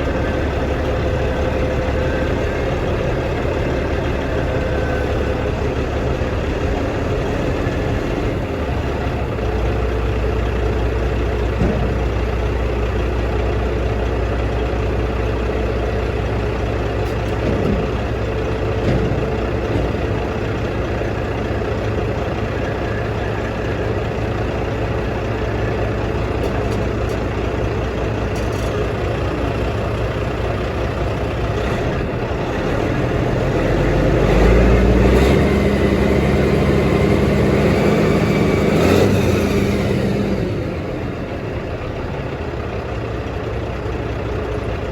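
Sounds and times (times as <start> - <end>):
dump truck diesel engine revving: 0.0 - 44.9.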